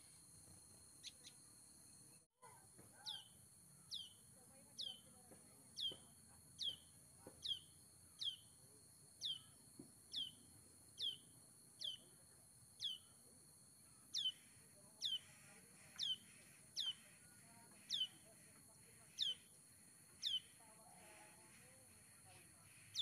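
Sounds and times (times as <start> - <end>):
small bird call: 2.4 - 8.6, 9.2 - 12.2, 12.8 - 23.0.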